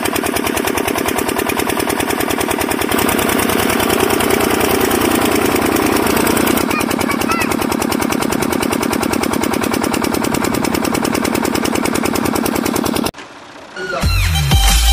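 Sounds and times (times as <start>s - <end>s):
small diesel engine chugging: 0.0s - 14.5s.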